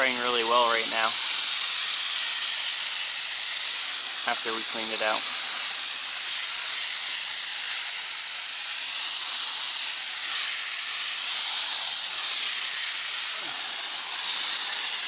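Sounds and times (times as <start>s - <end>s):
paint spray gun hissing: 0.0s - 15.0s.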